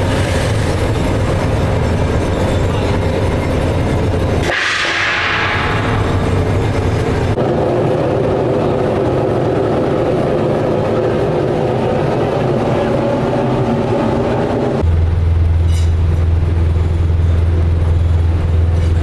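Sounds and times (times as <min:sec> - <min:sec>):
heavy machinery rumbling: 0:00.0 - 0:19.0.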